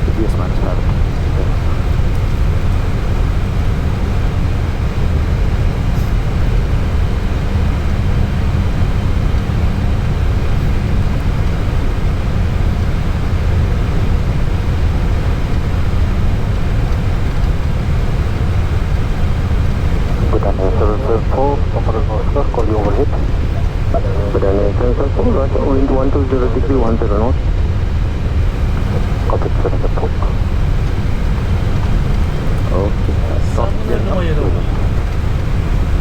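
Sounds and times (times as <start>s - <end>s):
airliner cockpit engine rumble: 0.0s - 36.0s.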